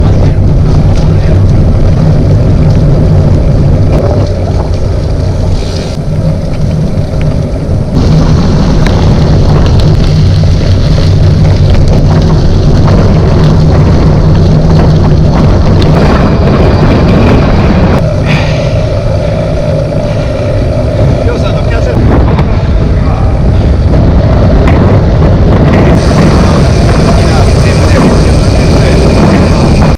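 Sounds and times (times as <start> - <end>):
low rumble: 0.0 - 29.9
wind buffeting microphone: 0.0 - 29.9.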